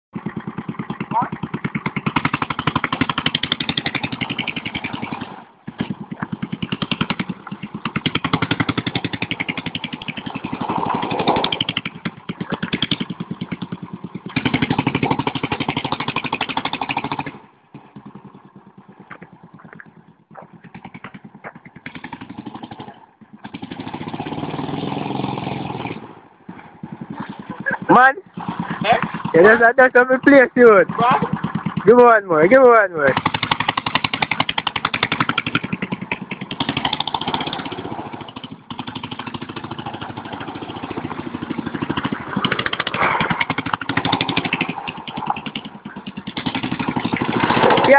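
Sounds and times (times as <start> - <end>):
go-kart engine revving: 0.2 - 47.9.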